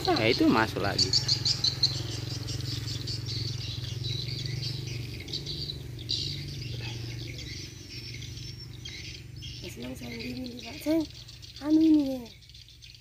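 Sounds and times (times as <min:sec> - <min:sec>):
steady low hum: 0:00.0 - 0:11.6
swiftlets twittering: 0:00.0 - 0:13.0.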